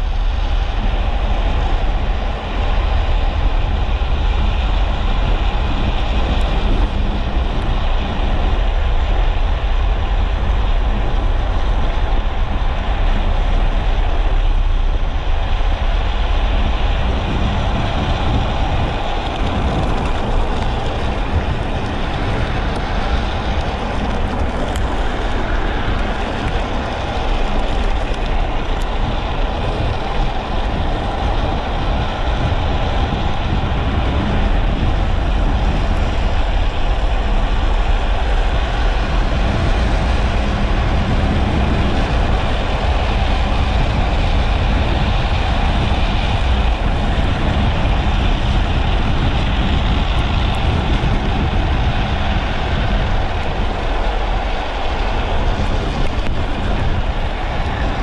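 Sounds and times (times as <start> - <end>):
plastic wheels rolling on asphalt: 0.0 - 58.0
wind roaring on microphone: 0.0 - 58.0.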